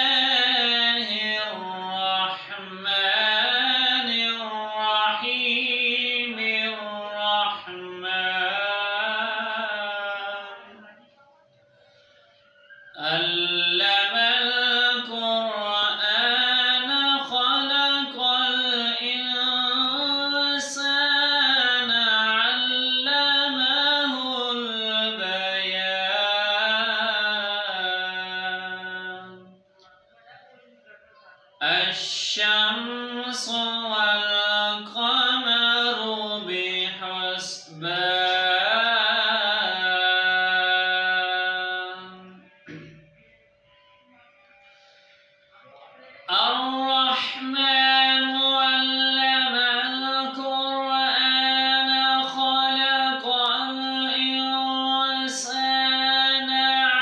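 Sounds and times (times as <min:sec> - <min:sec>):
man chanting melodically: 0:00.0 - 0:11.4, 0:12.5 - 0:29.6, 0:31.0 - 0:43.6, 0:44.8 - 0:57.0.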